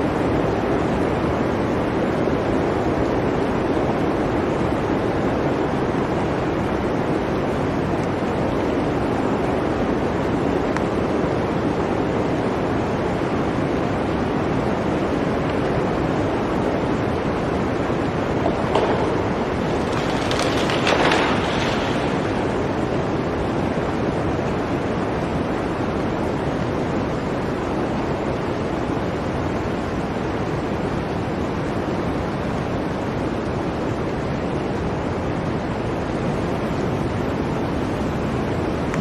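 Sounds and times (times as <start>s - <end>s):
blizzard wind rushing: 0.0s - 39.0s.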